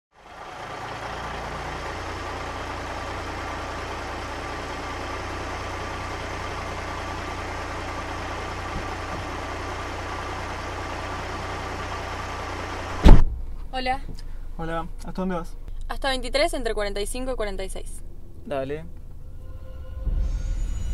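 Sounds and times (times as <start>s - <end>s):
car engine idling: 0.1s - 20.9s.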